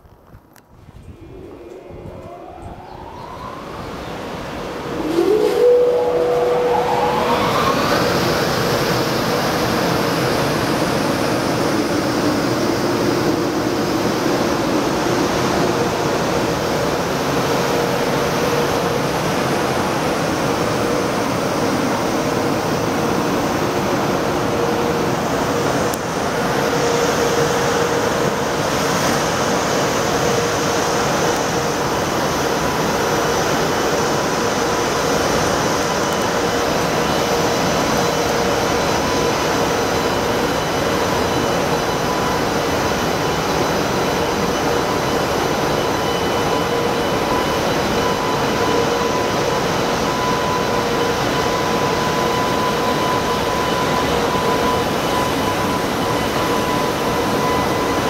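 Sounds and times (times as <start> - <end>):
electric locomotive whine: 0.0 - 58.0
locomotive running hum: 0.2 - 58.0.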